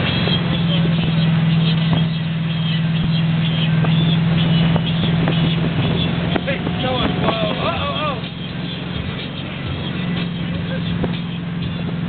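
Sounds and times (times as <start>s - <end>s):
boat engine humming: 0.0s - 12.0s
wake water rushing: 0.0s - 12.0s.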